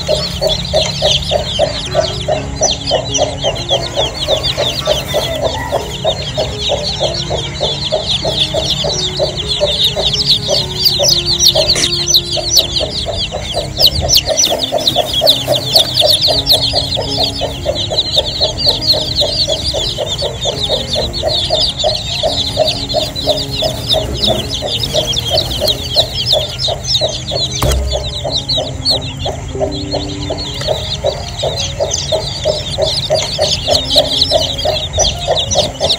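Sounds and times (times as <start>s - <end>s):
chicks peeping: 0.0s - 35.9s
hen clucking: 0.0s - 35.9s.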